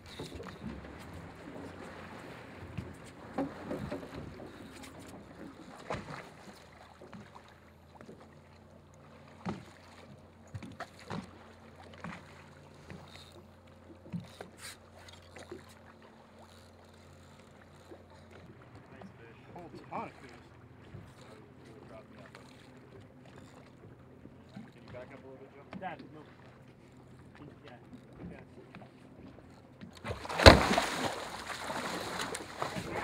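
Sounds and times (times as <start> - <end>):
water lapping against hull: 0.0 - 33.0.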